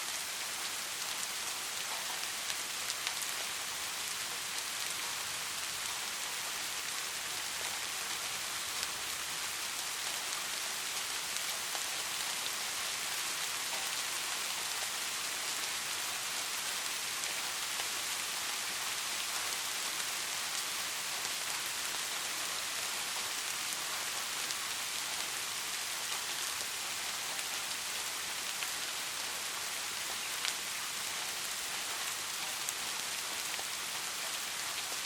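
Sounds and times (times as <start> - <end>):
steady rainfall: 0.0 - 35.0.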